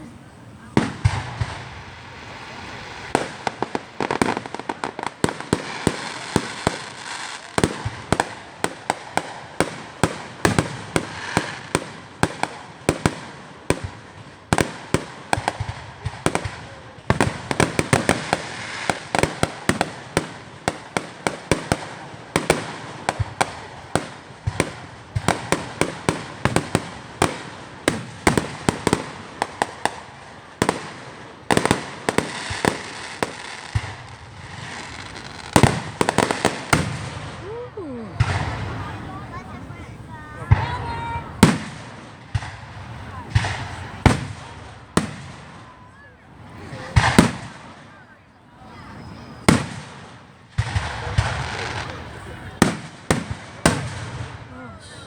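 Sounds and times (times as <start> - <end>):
fireworks bangs and pops: 0.0 - 55.0.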